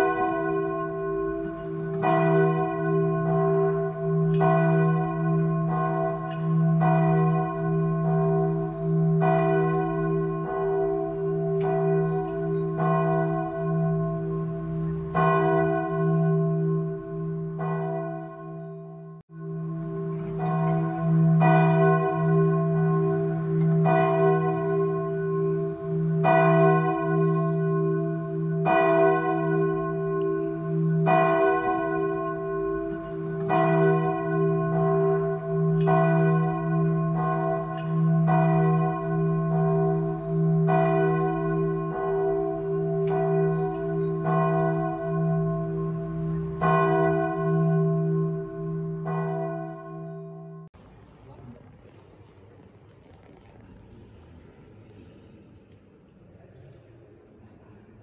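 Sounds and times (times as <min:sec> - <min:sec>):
church bell tolling: 0:00.0 - 0:50.8.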